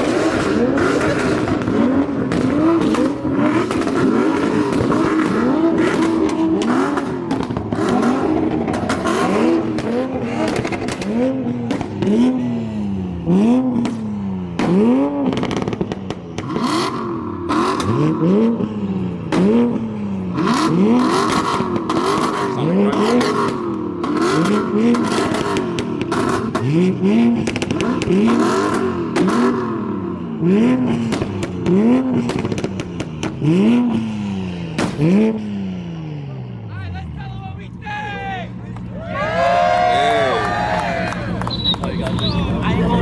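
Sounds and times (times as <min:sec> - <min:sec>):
exhaust pops and crackles: 0:00.0 - 0:12.5, 0:13.2 - 0:35.9, 0:36.9 - 0:43.0
car engine revving hard: 0:00.0 - 0:37.2.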